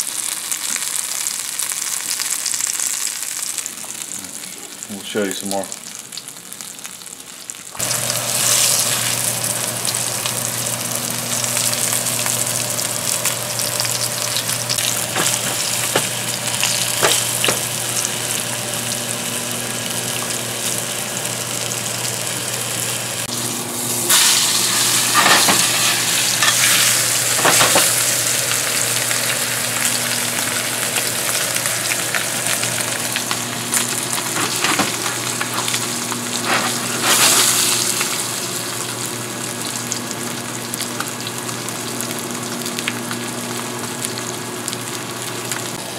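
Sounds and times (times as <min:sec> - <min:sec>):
meat sizzling in skillet: 0:00.0 - 0:45.9.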